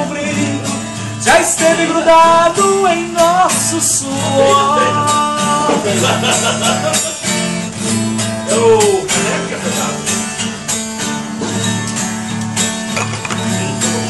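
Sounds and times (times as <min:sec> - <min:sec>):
bass: 0:00.0 - 0:14.0
strummed acoustic guitar: 0:00.0 - 0:14.0.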